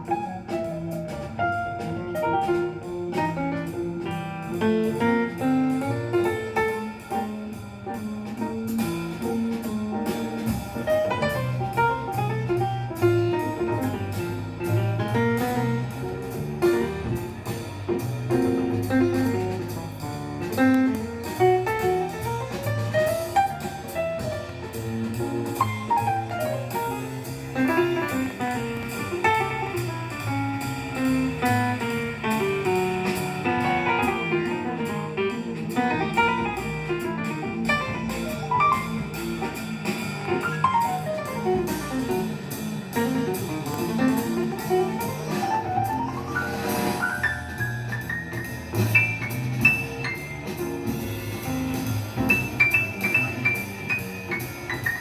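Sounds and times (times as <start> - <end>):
jazz guitar and drums: 0.0 - 55.0.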